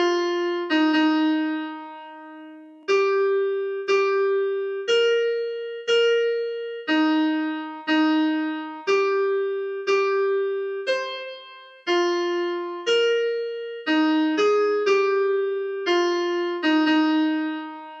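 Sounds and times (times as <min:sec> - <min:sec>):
synthesized piano melody: 0:00.0 - 0:18.0.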